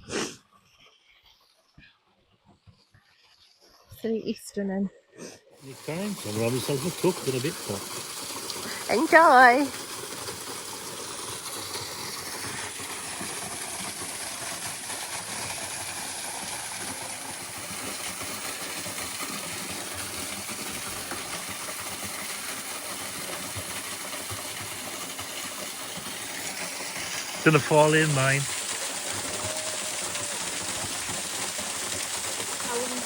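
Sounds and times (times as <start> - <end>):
waterfall splashing into pool: 5.6 - 33.0.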